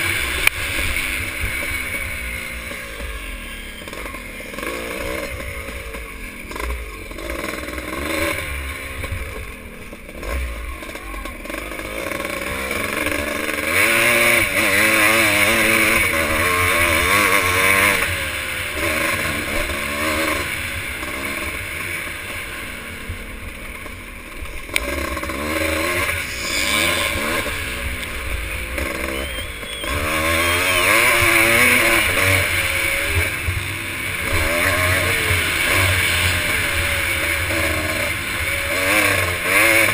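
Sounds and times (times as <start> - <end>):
motorcycles revving: 0.0 - 39.9.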